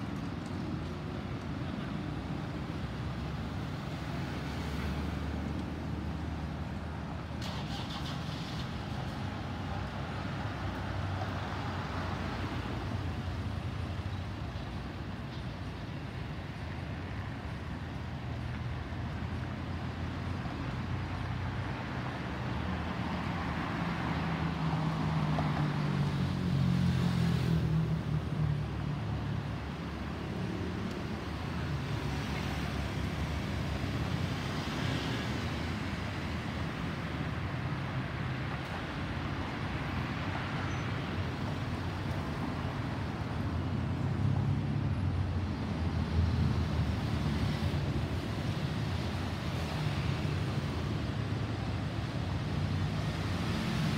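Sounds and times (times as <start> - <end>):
road traffic: 0.0 - 53.9.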